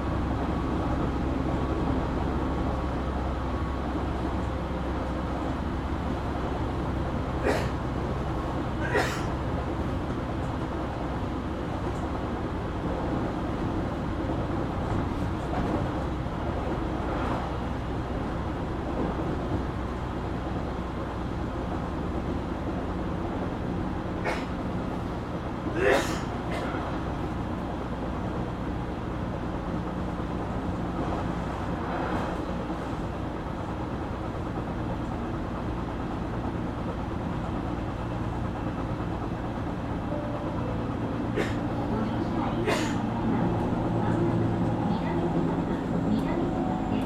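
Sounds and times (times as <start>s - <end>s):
train motors and wheels humming: 0.0s - 47.0s.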